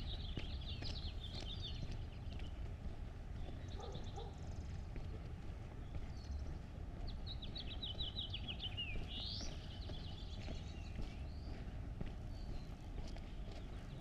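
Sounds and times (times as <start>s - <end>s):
footsteps on pavement: 0.0s - 14.0s.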